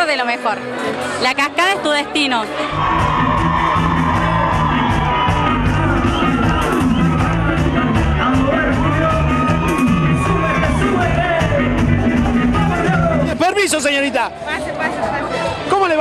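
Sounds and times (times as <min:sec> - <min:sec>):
live band playing: 0:00.0 - 0:16.0
bass line: 0:02.6 - 0:15.7.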